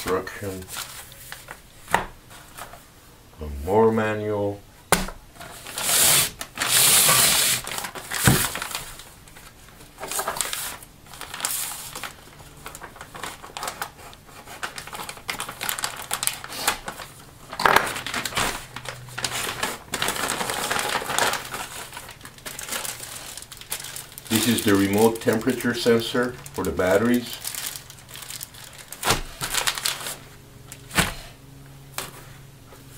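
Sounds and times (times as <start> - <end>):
plastic bags rustling: 0.0 - 2.9, 5.3 - 31.3.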